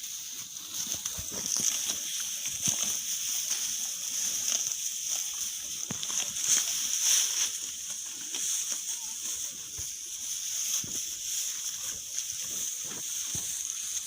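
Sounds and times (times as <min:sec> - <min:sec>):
cattle: 0:00.0 - 0:14.0.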